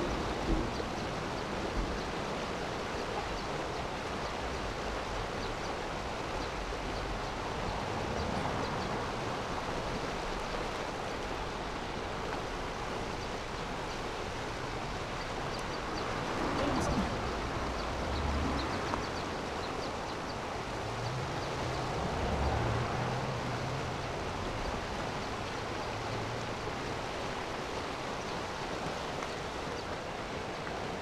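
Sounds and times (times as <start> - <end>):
water rushing over a drop: 0.0 - 31.0.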